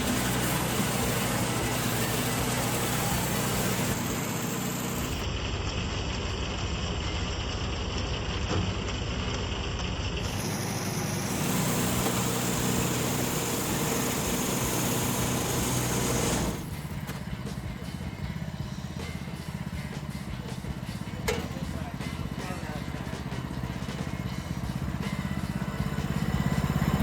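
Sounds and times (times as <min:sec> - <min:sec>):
sawmill engine running: 0:00.0 - 0:27.0.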